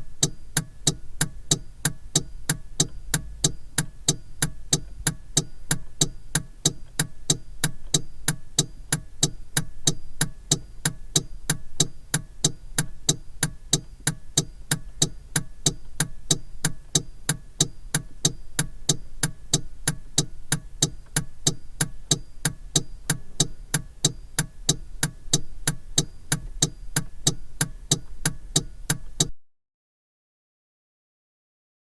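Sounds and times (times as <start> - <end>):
car turn signal clicking: 0.1 - 29.4.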